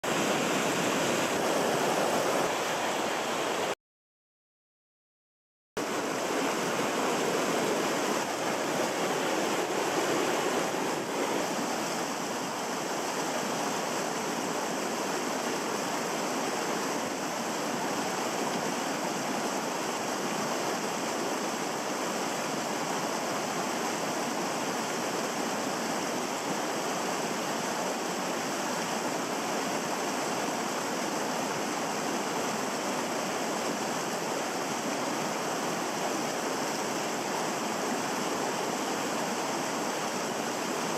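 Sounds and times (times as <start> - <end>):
river water rushing: 0.0 - 3.8, 5.8 - 40.9.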